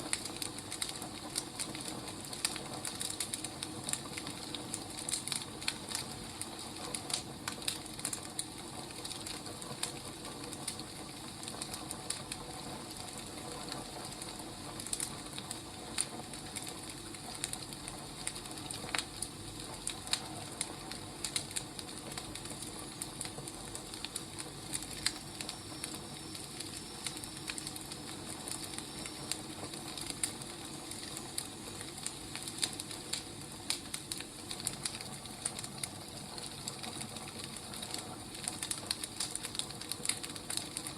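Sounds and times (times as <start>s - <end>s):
fire hissing: 0.0s - 40.9s
wood fire crackling: 0.0s - 40.9s.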